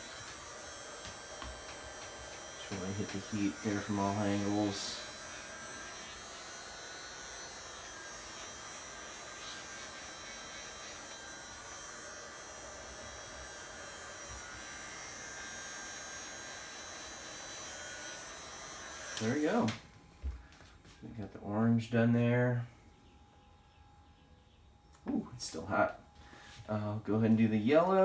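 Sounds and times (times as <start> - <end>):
heat gun fan whirring: 0.0 - 28.0.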